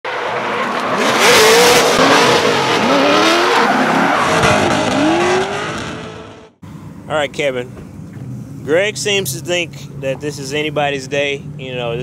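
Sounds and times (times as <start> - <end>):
car engines revving: 0.1 - 12.0.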